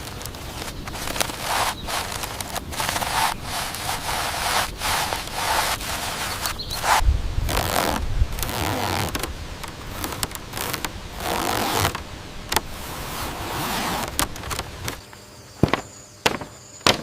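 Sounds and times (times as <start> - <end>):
hand tool rasping bamboo: 0.0 - 9.2, 9.9 - 15.0.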